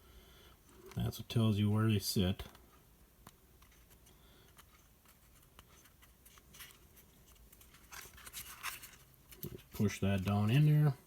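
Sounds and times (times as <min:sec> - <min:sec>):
light ticks and scratches: 0:00.6 - 0:11.0.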